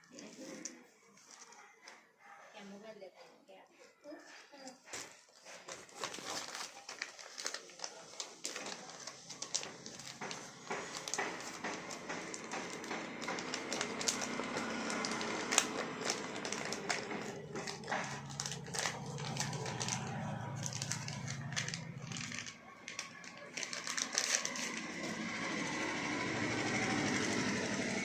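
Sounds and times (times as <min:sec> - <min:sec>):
packaging clicks and rustles: 0:04.7 - 0:28.0.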